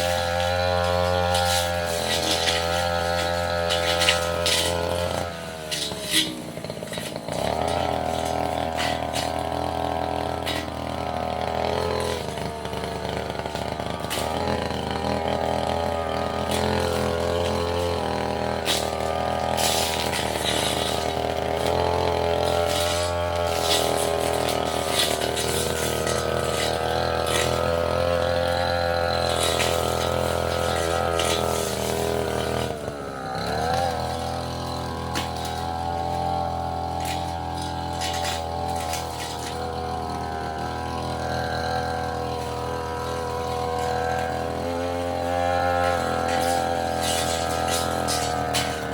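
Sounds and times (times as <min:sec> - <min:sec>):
brush cutter engine revving: 0:00.0 - 0:48.9.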